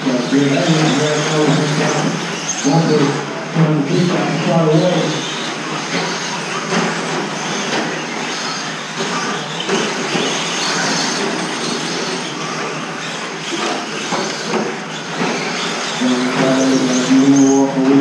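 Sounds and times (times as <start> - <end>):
rc truck electric motors: 0.0 - 18.0.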